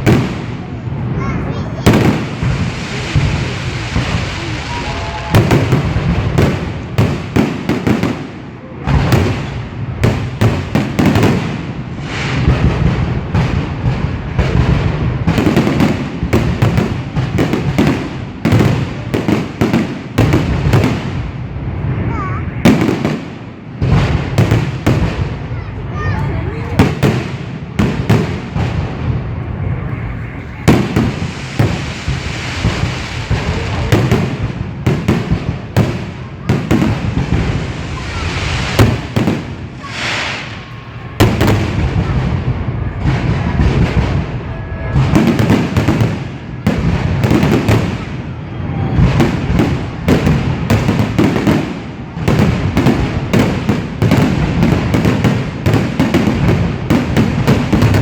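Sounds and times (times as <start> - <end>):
continuous rumble: 0.0 - 58.0
fireworks bangs: 0.0 - 58.0.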